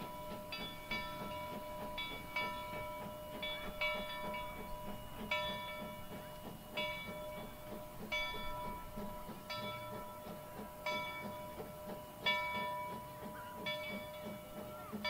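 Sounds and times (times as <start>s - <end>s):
locomotive bell ringing: 0.0s - 15.0s
low steam chuffing: 0.0s - 15.0s.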